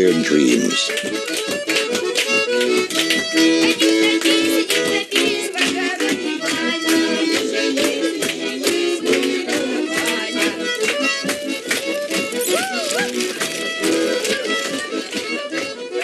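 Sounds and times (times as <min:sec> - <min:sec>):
folk music with accordion and fiddle: 0:00.0 - 0:16.0.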